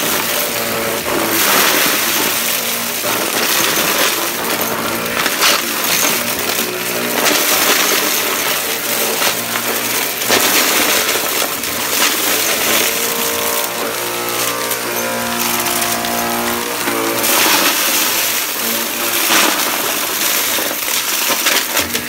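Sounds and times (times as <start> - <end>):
debris rattling into dust cup: 0.0 - 22.0
upright vacuum cleaner running: 0.0 - 22.0.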